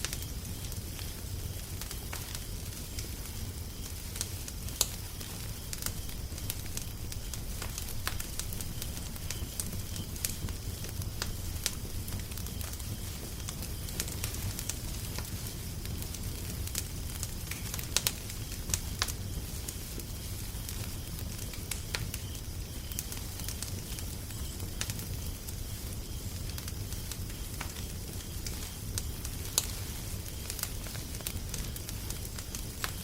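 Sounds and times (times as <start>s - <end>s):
low fire rumble: 0.0s - 33.0s
wood fire popping and snapping: 0.0s - 33.0s.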